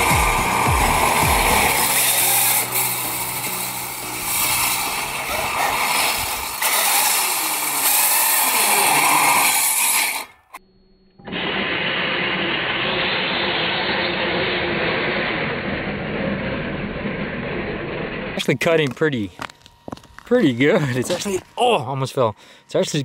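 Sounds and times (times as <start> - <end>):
blades grinding on ice: 0.0 - 10.6, 11.3 - 21.9
electric motor whining: 0.0 - 23.0.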